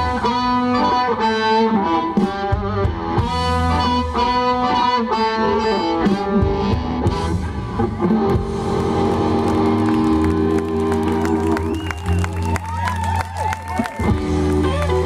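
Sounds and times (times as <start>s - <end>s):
blues band playing: 0.0s - 15.0s
electric guitar: 0.0s - 15.0s.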